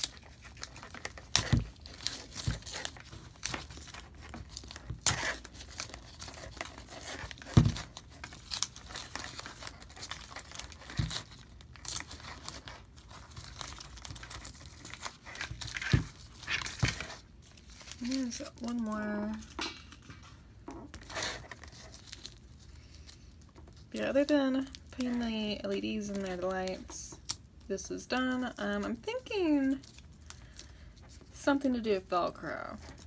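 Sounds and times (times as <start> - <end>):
tape peeling and crackling: 0.0 - 31.4, 32.7 - 33.0.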